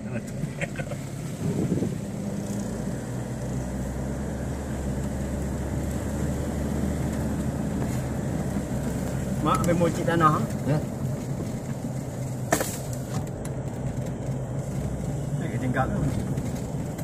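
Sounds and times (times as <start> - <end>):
car engine drone: 0.0 - 17.0
tyre and road rumble: 0.0 - 17.0.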